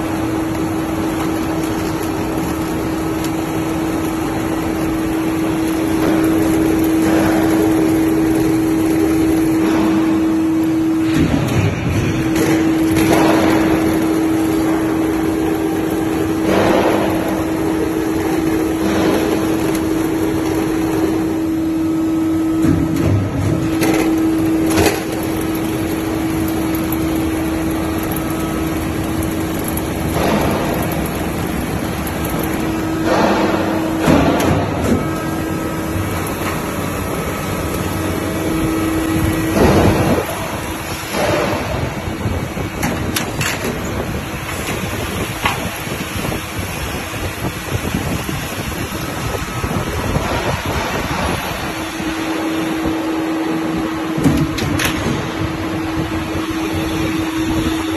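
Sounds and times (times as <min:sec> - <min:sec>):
machine hum: 0:00.0 - 0:57.9.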